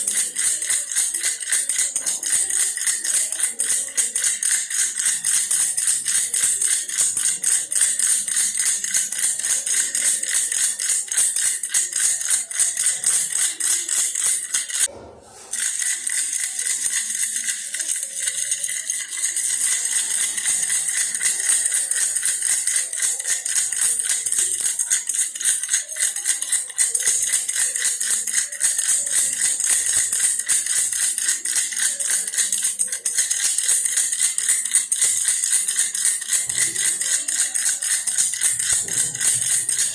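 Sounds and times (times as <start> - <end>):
toy rattle shaken rapidly: 0.0 - 39.9.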